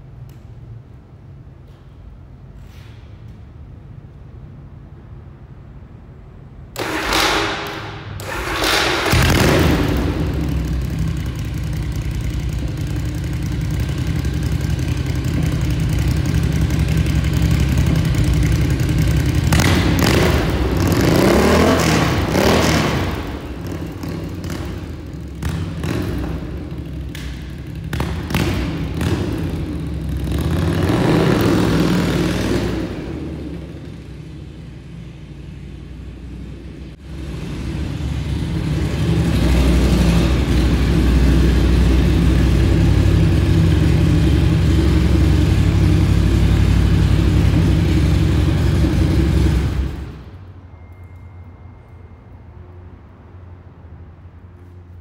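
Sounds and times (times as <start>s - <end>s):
motorcycle engine idling and revving: 6.8s - 50.9s.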